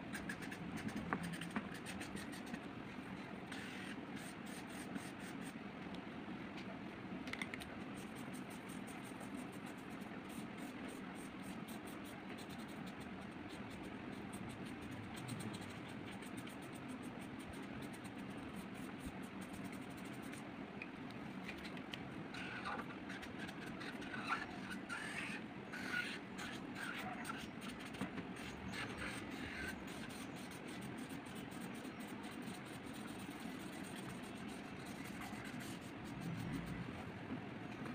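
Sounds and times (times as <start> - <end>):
low background hum: 0.0 - 37.9
colouring strokes on paper: 0.1 - 2.6, 3.5 - 5.6, 7.9 - 20.4, 22.3 - 37.0.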